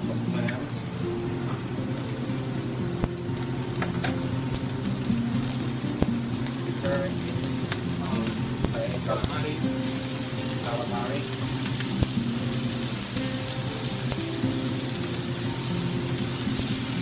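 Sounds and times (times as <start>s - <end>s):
seafood frying in oil: 0.0s - 17.0s.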